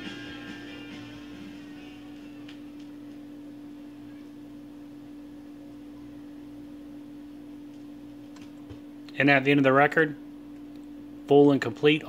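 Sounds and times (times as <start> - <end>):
turntable low hum: 0.0 - 12.0.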